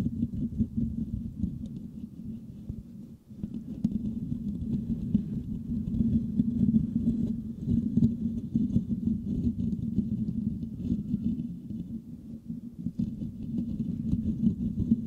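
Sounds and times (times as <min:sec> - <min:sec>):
fingertips scratching microphone grille: 0:00.0 - 0:15.0.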